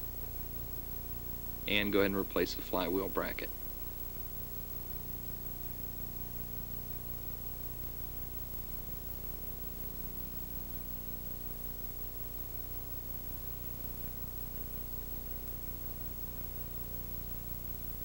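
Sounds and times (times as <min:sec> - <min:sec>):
low electrical hum: 0:00.0 - 0:18.0
tape hiss: 0:00.0 - 0:18.0.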